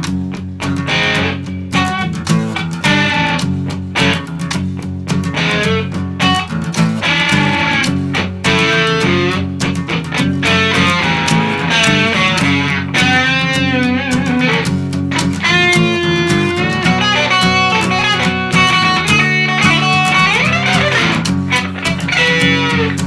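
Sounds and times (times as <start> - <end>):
bass guitar: 0.0 - 23.0
drums: 0.0 - 23.0
electric guitar lead: 0.0 - 23.0.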